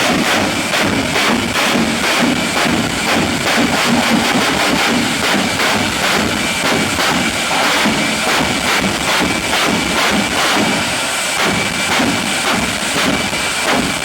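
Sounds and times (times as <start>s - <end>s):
jet engine running: 0.0s - 14.0s.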